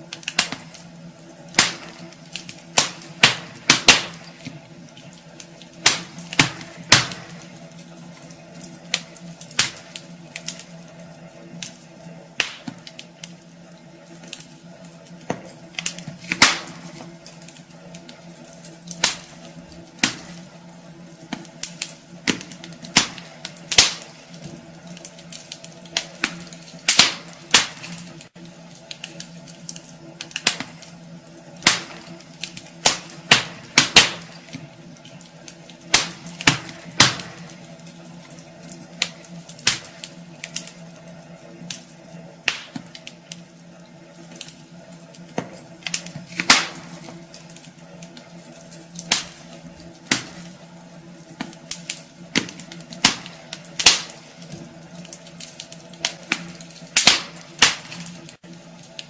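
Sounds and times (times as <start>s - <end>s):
steady low hum: 0.0s - 59.0s
wood fire crackling: 0.0s - 59.0s.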